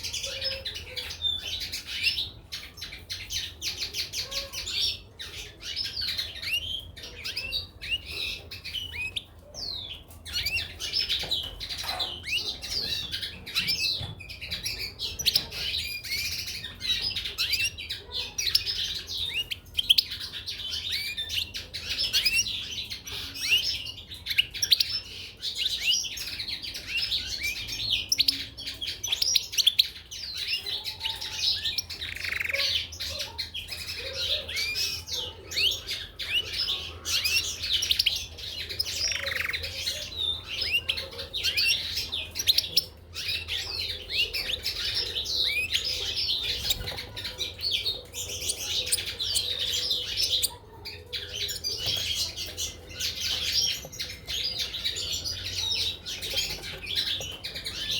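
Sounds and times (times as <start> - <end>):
finches chirping and twittering: 0.0 - 57.9.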